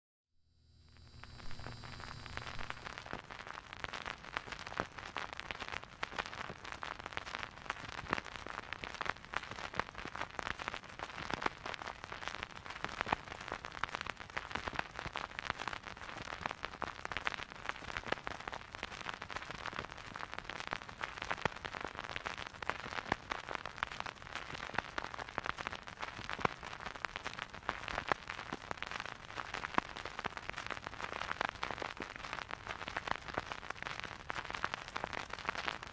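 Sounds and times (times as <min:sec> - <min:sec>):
vinyl record surface hiss: 0:00.6 - 0:35.9
vinyl crackle and pops: 0:00.7 - 0:35.9.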